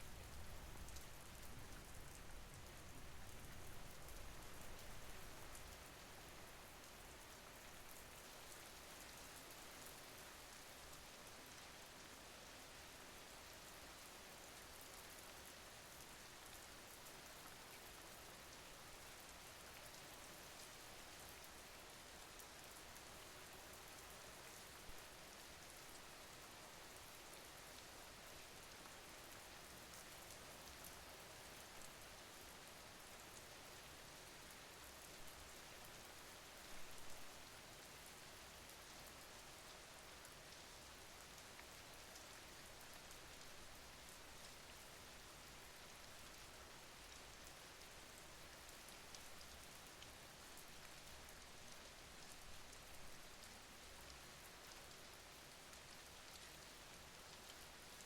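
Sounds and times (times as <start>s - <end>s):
faint rain: 0.0s - 58.0s.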